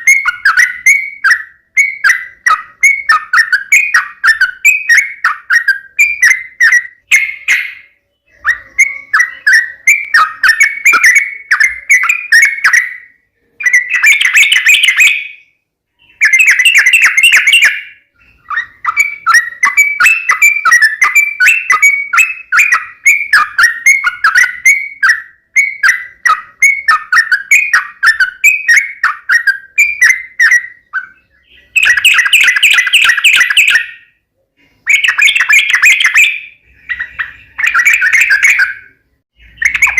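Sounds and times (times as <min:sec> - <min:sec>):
bird singing bubbly chirps: 0:00.0 - 0:34.2, 0:34.8 - 0:39.9.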